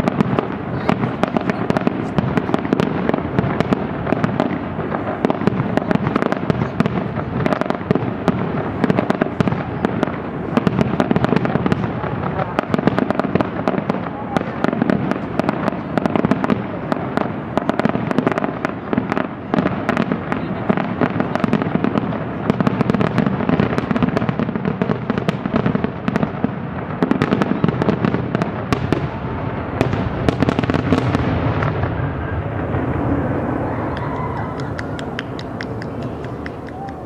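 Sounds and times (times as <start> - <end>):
fireworks bursting: 0.0 - 37.0.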